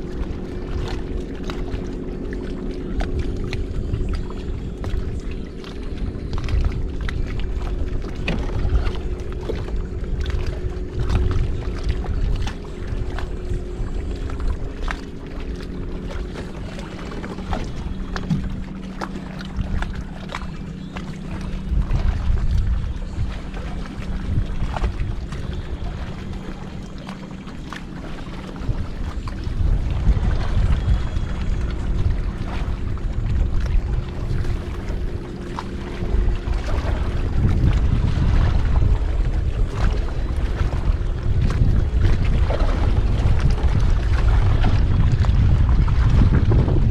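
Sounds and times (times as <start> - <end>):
low steady hum: 0.0 - 46.9
water against kayak hull: 0.0 - 46.9
wind rumbling on microphone: 0.0 - 46.9.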